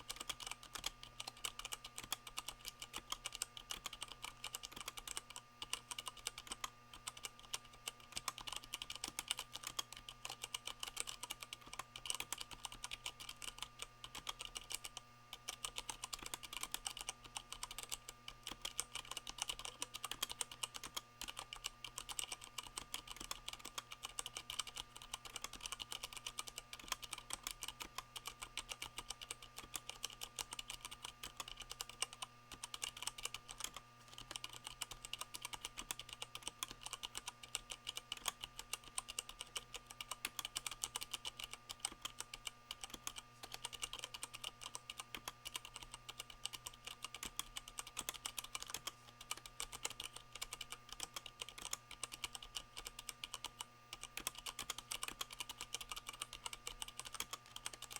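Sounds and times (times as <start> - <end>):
faint steady hum: 0.0 - 57.9
fast typing on mechanical keyboard: 0.0 - 57.9.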